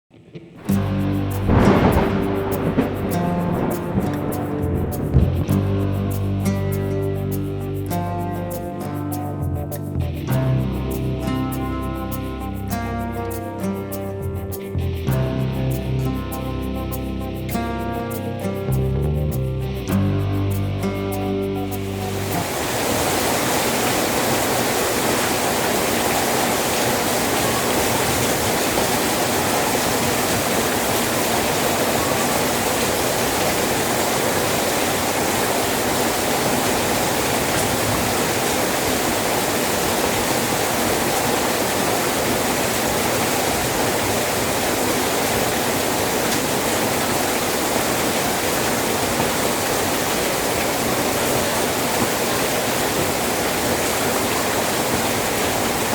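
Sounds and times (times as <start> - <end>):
rain falling steadily: 0.3 - 55.9.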